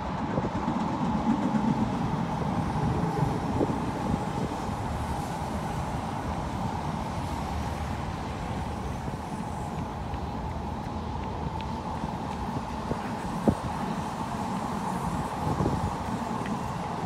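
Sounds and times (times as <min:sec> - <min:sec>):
train rumbling across bridge: 0:00.0 - 0:17.0.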